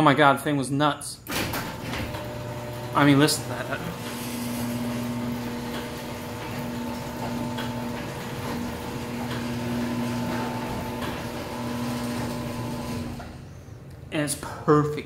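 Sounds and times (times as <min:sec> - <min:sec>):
garage door opener humming: 0:01.3 - 0:13.9.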